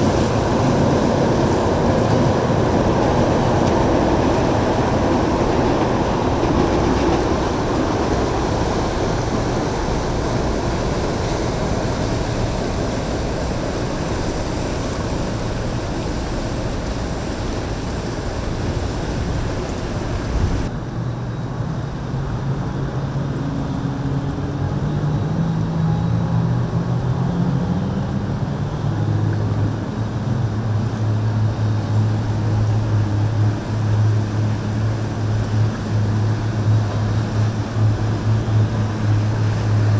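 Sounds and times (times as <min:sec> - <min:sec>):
low engine drone: 0:00.0 - 0:39.9
motorboat engines running: 0:00.0 - 0:39.9
rushing water: 0:00.0 - 0:39.9
wind: 0:00.0 - 0:39.9.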